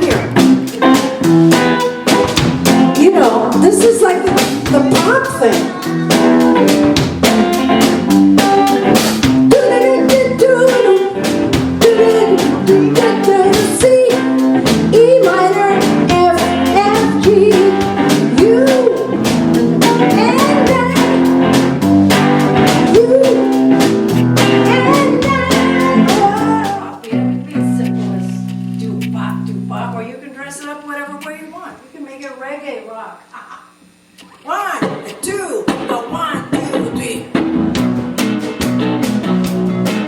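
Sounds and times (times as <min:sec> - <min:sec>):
rock band playing: 0:00.0 - 0:30.1, 0:34.8 - 0:40.0
guitar melody: 0:00.0 - 0:31.4, 0:34.8 - 0:40.0
drum kit beat: 0:00.0 - 0:31.8, 0:34.5 - 0:40.0.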